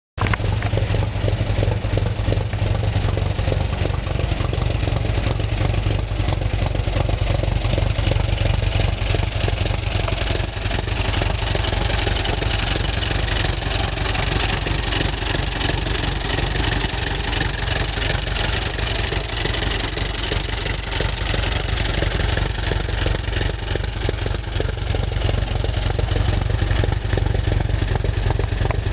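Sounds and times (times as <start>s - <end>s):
car engine idling: 0.2s - 28.9s.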